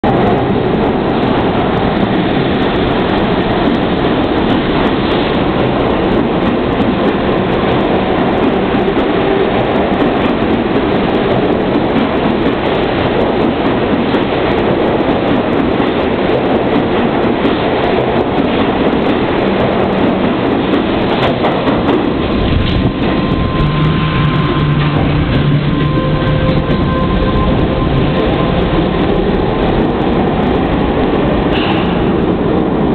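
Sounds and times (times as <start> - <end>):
subway train running past: 0.0 - 32.9.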